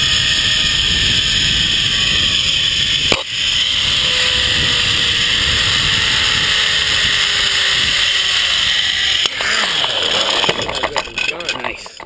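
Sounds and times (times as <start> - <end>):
wind rushing over microphone: 0.0 - 11.1
faint falling whine: 0.0 - 11.6
pulleys running along steel cable: 0.0 - 12.0.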